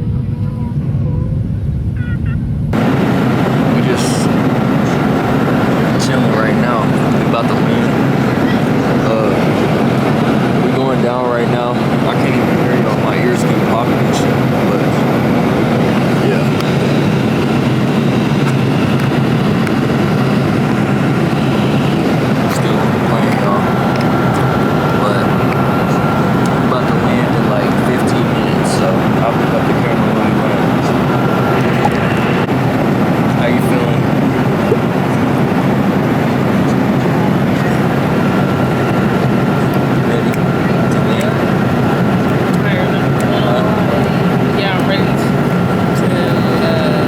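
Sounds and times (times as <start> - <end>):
airliner cabin engine roar: 0.0 - 47.0.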